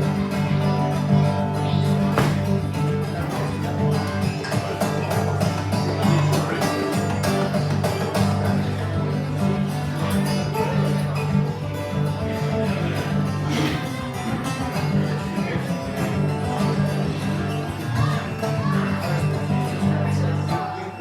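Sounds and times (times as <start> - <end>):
bass line: 0.0 - 20.5
country acoustic guitar music: 0.0 - 21.0.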